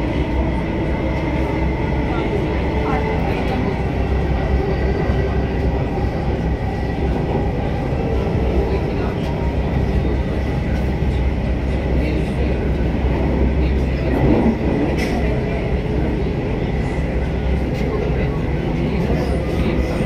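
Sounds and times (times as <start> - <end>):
metro train rumbling: 0.0 - 20.0
train whine: 0.0 - 20.0.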